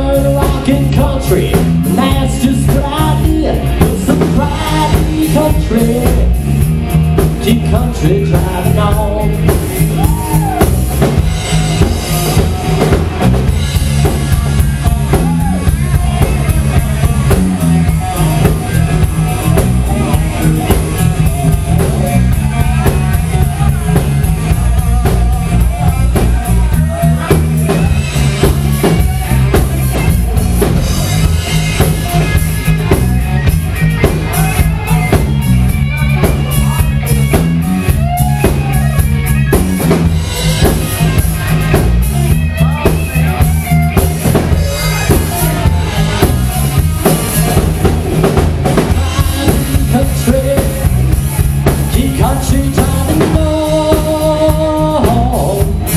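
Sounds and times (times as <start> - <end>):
drum kit: 0.0 - 55.9
electric bass line: 0.0 - 55.9
electric guitar: 0.0 - 55.9.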